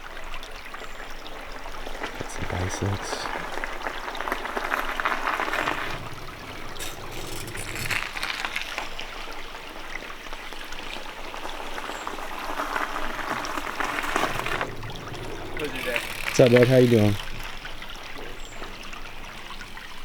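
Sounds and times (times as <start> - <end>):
creek water trickling: 0.0 - 20.0.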